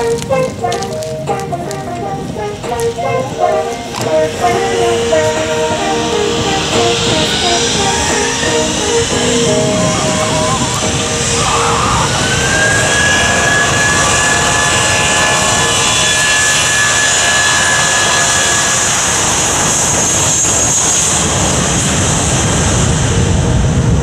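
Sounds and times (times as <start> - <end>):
jet engines at takeoff thrust: 0.0 - 24.0.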